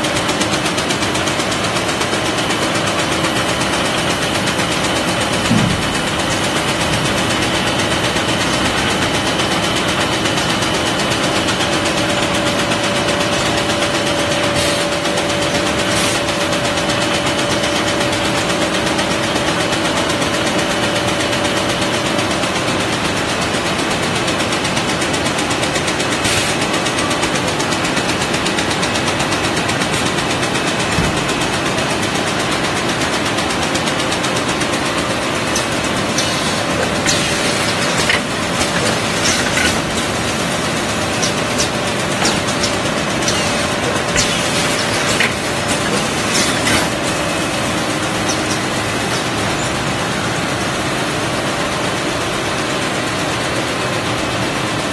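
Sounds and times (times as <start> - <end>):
machine hum: 0.0 - 23.5, 25.0 - 53.5
machine clattering: 0.0 - 54.9.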